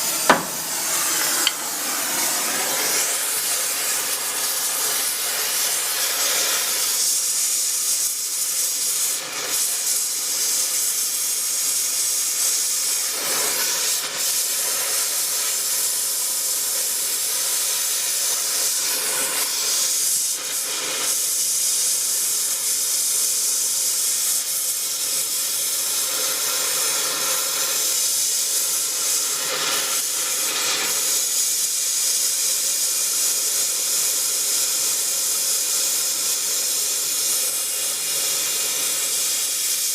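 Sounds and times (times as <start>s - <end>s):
loud steady hiss: 0.0s - 39.9s.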